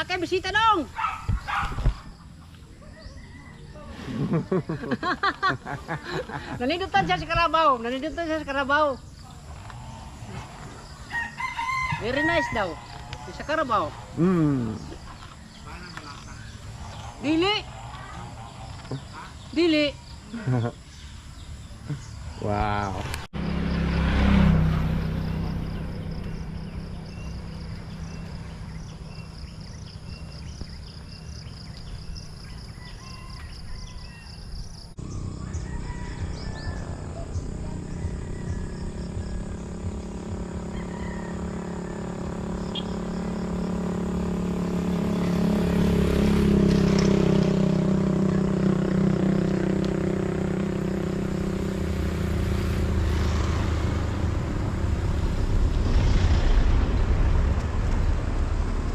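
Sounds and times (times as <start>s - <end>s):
engine running: 0.0s - 32.7s, 34.9s - 58.9s.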